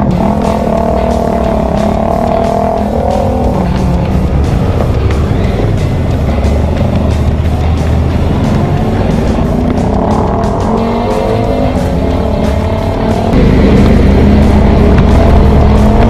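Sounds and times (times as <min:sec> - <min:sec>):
background music: 0:00.0 - 0:16.0
motorcycle engine running: 0:00.0 - 0:16.0
road noise: 0:00.0 - 0:16.0.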